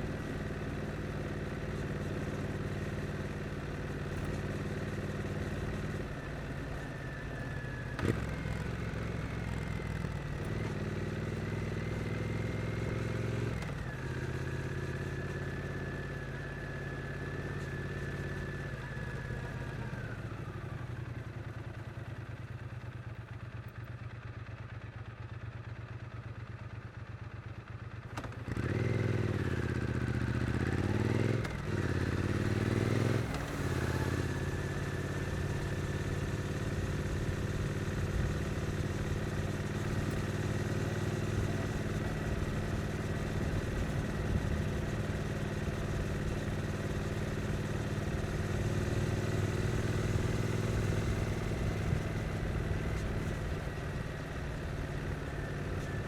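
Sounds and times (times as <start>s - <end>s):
motorcycle engine accelerating: 0.0s - 22.6s, 28.1s - 56.0s.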